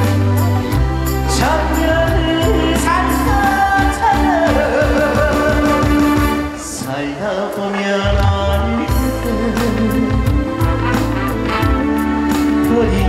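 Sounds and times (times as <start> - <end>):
live band music: 0.0 - 13.0.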